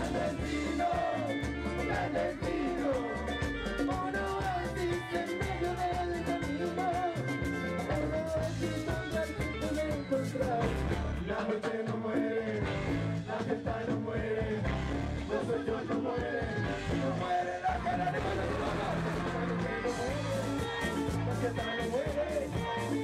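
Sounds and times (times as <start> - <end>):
person singing: 0.0 - 12.7, 15.3 - 23.0
live band music: 0.0 - 23.0.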